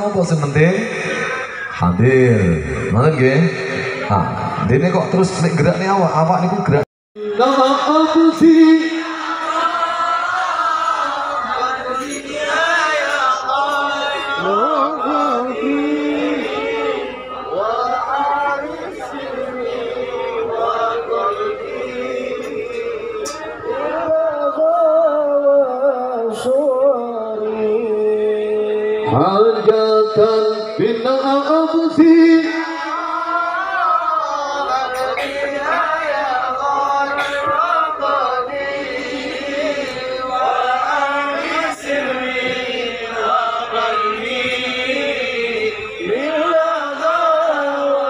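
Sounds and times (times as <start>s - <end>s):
men chanting: 7.2s - 48.0s.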